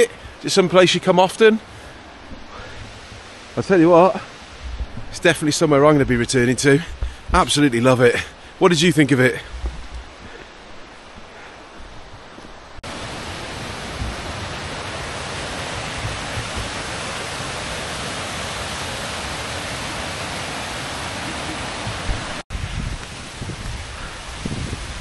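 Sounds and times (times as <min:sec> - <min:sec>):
waterfall rushing: 0:00.0 - 0:09.4, 0:12.8 - 0:25.0.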